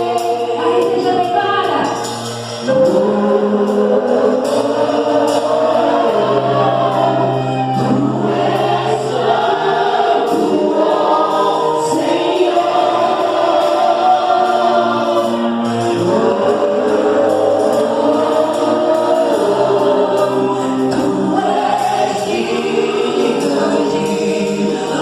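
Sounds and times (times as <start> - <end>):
band with sustained bass: 0.0 - 25.0
group of voices singing: 0.0 - 25.0.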